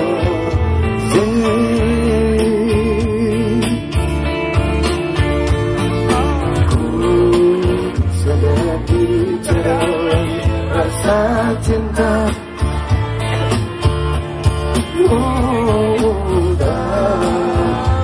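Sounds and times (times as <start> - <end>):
man singing into a microphone: 0.0 - 4.2, 5.9 - 13.0, 14.7 - 18.0
amplified backing music: 0.0 - 18.0.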